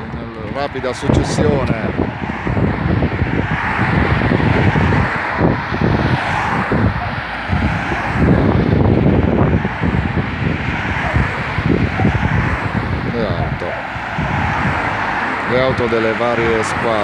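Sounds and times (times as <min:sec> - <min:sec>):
cars driving past: 0:00.0 - 0:17.0
wind buffeting microphone: 0:00.0 - 0:17.0.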